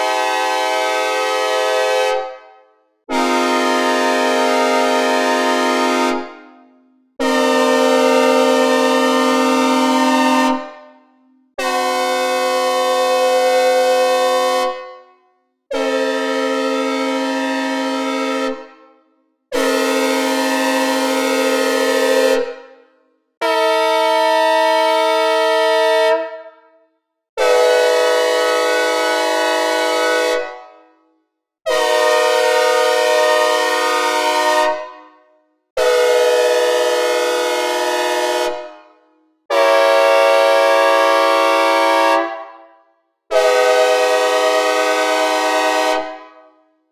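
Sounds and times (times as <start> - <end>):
synthesized locomotive air horns: 0.0 - 18.9, 19.5 - 22.8, 23.4 - 26.7, 27.4 - 31.0, 31.7 - 35.2, 35.8 - 42.7, 43.3 - 46.4.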